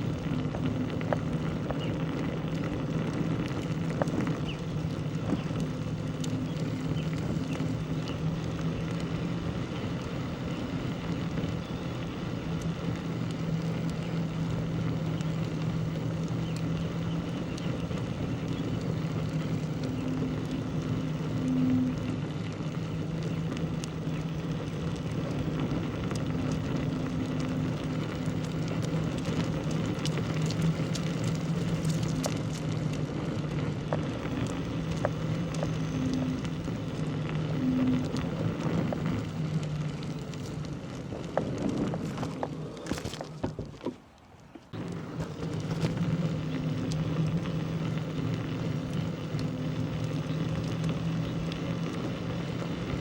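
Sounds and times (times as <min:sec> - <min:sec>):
motor droning: 0:00.0 - 0:53.0
light clicks and ticks: 0:00.1 - 0:53.0.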